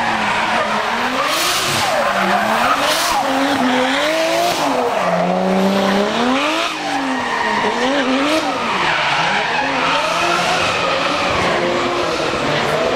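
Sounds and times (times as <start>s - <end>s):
car engine revving: 0.0s - 12.9s
tyres skidding and screeching: 0.0s - 12.9s.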